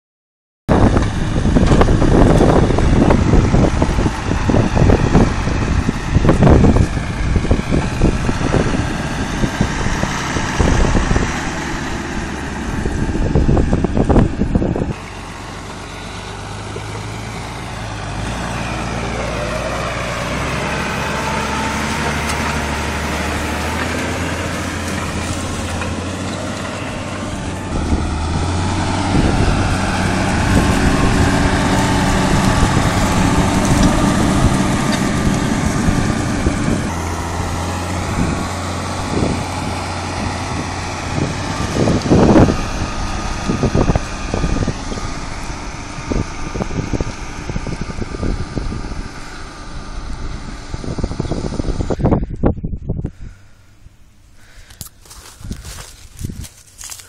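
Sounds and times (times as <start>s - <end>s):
tractor diesel engine running: 0.7s - 57.0s.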